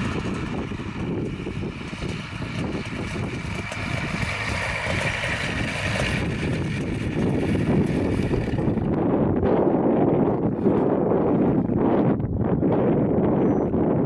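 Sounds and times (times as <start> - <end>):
light aircraft engine whine: 0.0 - 14.0
wind buffeting microphone: 0.0 - 14.0.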